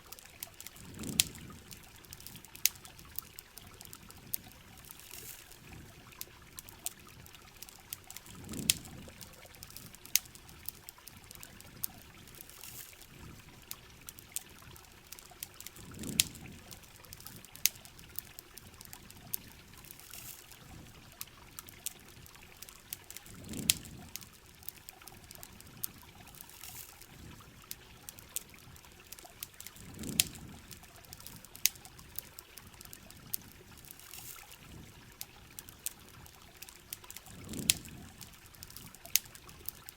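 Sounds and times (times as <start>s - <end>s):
campfire popping and crackling: 0.0s - 39.9s.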